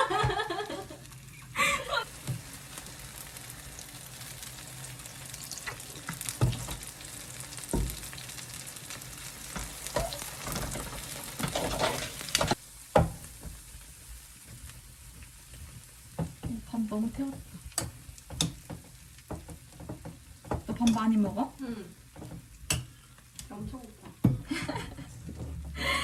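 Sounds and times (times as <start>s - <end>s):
food sizzling in a frying pan: 0.0s - 25.6s.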